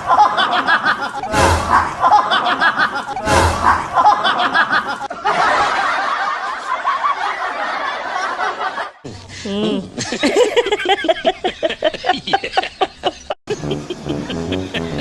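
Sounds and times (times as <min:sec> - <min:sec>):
people laughing and snickering: 0:00.0 - 0:15.0.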